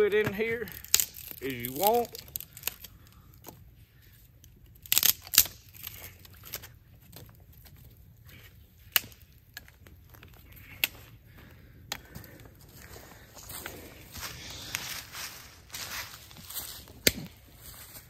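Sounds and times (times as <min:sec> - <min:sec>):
small sticks snapping and crackling: 0:00.3 - 0:18.0.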